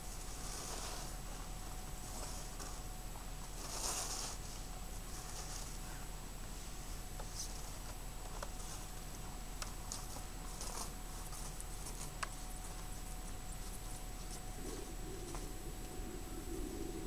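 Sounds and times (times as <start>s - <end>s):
rake rustling leaves: 0.0s - 15.9s
faint steady hum: 0.0s - 17.0s.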